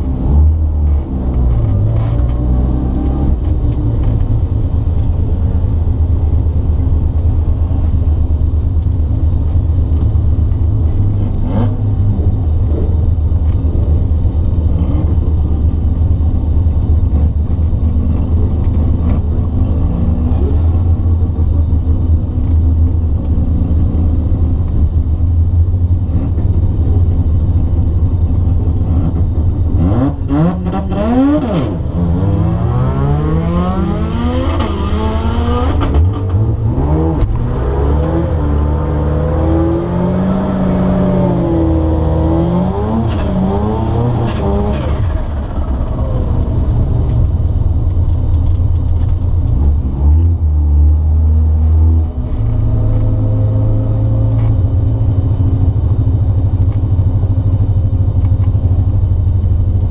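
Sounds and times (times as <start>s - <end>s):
rotary engine idling and revving: 0.0s - 59.9s.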